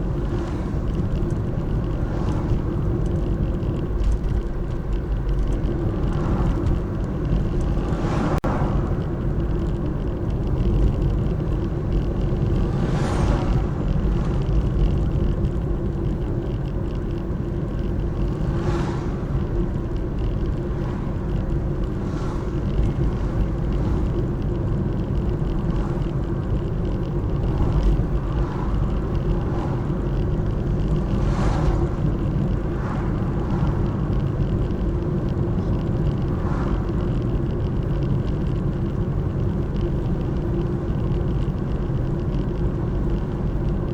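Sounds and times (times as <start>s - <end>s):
vehicles swishing past: 0.0s - 39.8s
road vehicle rumble: 0.0s - 43.9s.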